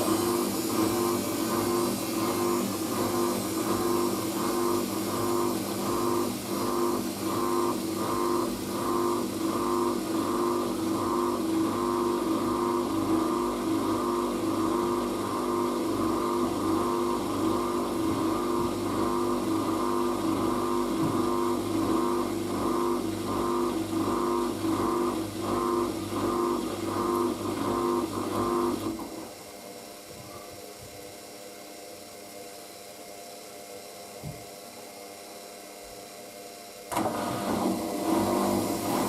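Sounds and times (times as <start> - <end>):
washing machine spinning: 0.0 - 31.2, 36.2 - 39.0.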